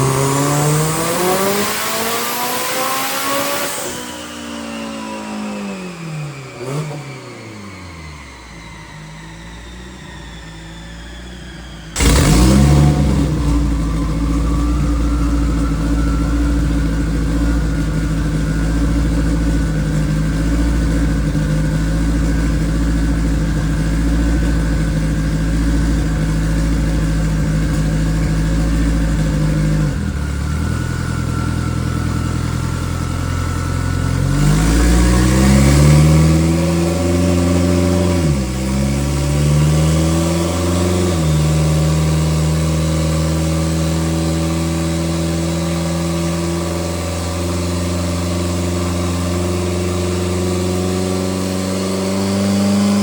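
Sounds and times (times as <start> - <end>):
race car engine revving: 0.0 - 8.4, 11.6 - 53.0.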